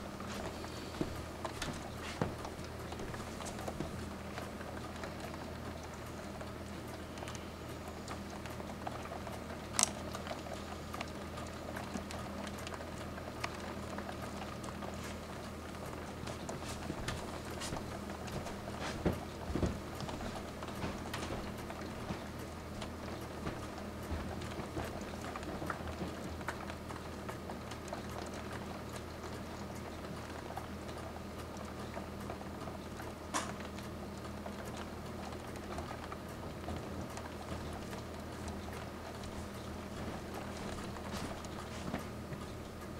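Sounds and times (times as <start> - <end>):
rain drops tapping: 0.0 - 42.9
steady low hum: 0.0 - 42.9.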